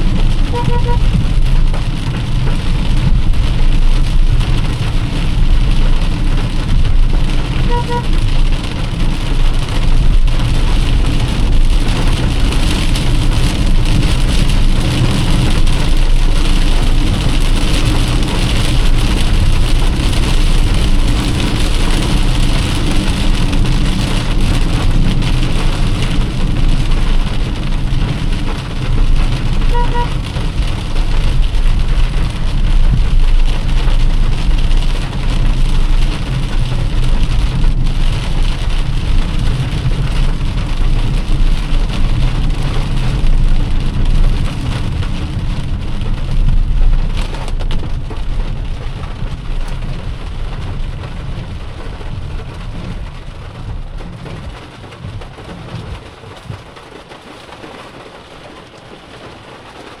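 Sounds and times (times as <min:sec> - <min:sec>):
deep rumble: 0:00.0 - 0:56.8
heavy rain on a car: 0:00.0 - 1:00.0.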